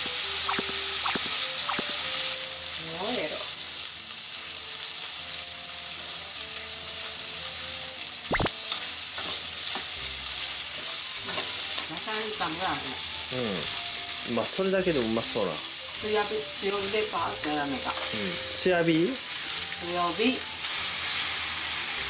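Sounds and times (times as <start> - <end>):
bacon sizzling in frying pan: 0.0 - 22.0.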